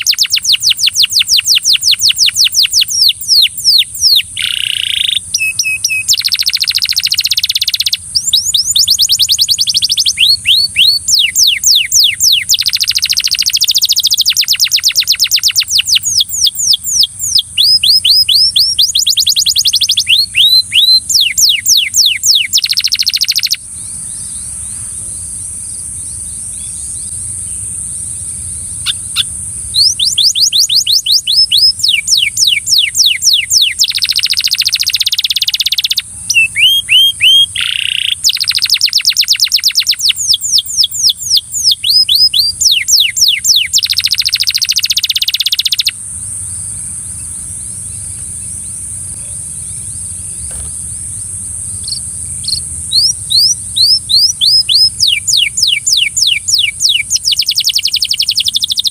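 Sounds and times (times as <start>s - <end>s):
steady high hiss: 0.0s - 41.5s, 42.5s - 58.9s
canary singing rolling trills: 0.0s - 58.9s.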